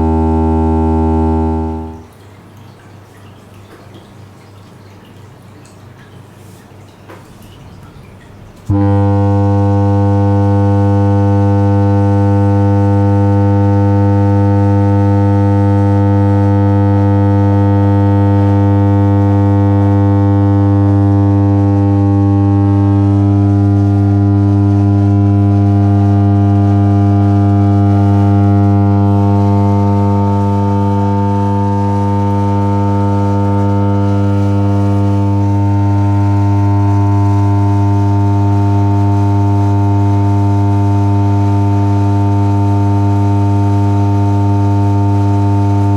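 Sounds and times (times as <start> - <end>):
low test tone through speakers: 0.0 - 2.2, 8.6 - 45.9.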